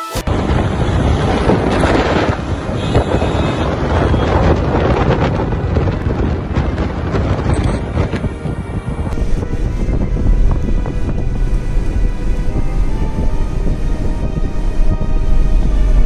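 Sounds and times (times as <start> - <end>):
highway road noise: 0.0 - 16.0
wind buffeting microphone: 0.3 - 16.0.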